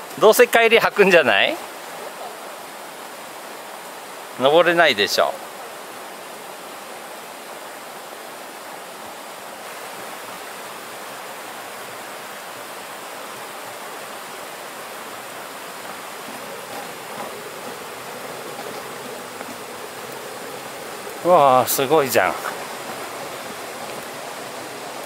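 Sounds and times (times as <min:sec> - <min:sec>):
mountain stream rushing and splashing: 0:00.0 - 0:25.0.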